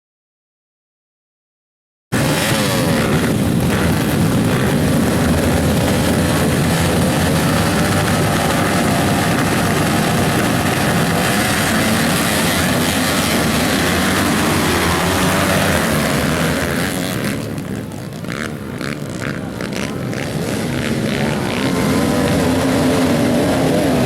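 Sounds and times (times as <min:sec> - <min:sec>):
dirt bike engines racing: 0:02.2 - 0:24.0.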